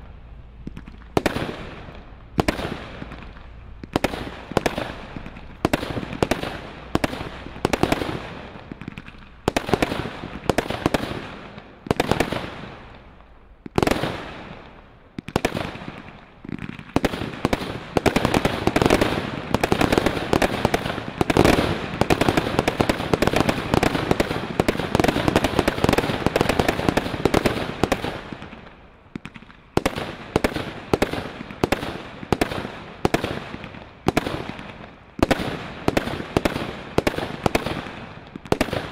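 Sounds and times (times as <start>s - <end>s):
firework stars crackling: 0.0s - 38.9s
fireworks shots firing: 0.0s - 38.9s.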